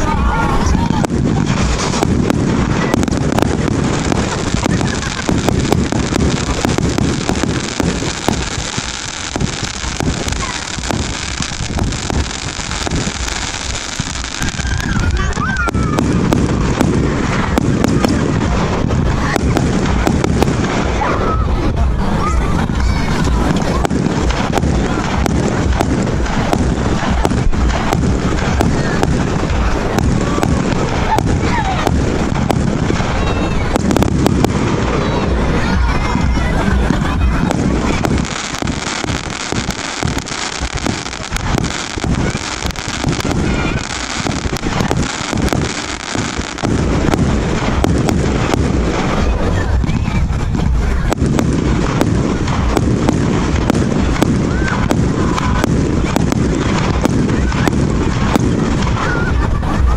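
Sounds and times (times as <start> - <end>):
firework cake barrage: 0.0 - 59.9.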